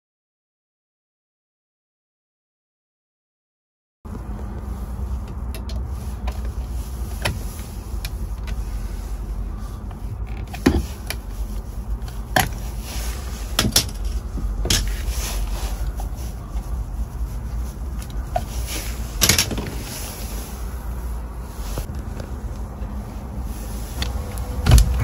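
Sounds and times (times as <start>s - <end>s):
steady low rumble: 4.1s - 25.0s.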